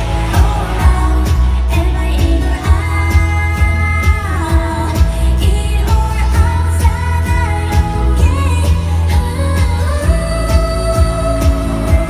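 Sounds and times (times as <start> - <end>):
pop song over sound system: 0.0 - 12.0
woman singing: 0.0 - 12.0.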